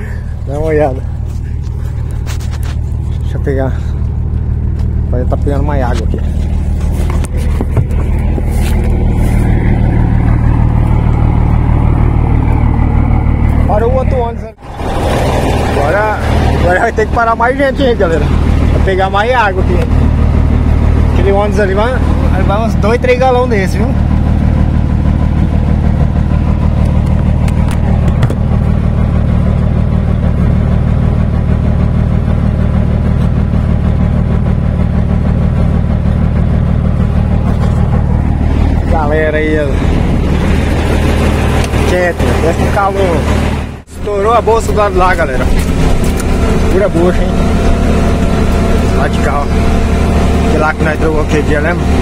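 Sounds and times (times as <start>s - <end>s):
diesel truck engine idling: 0.0s - 52.0s.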